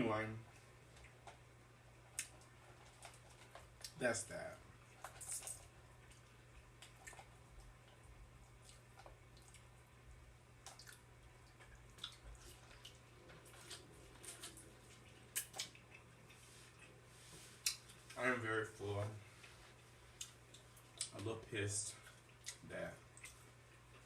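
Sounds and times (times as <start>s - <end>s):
low room hum: 0.0s - 24.0s
wet eating sounds: 0.5s - 4.0s, 4.7s - 18.2s, 19.3s - 21.3s, 21.9s - 24.0s.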